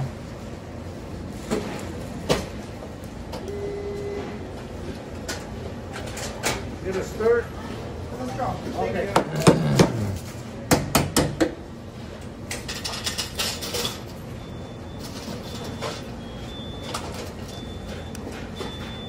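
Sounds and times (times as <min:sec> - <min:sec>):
restaurant background noise: 0:00.0 - 0:19.0.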